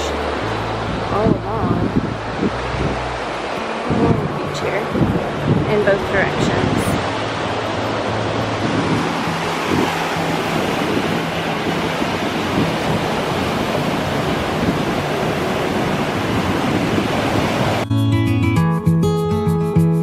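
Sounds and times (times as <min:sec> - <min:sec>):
surf rushing on beach: 0:00.0 - 0:17.9
acoustic guitar music: 0:00.0 - 0:20.0.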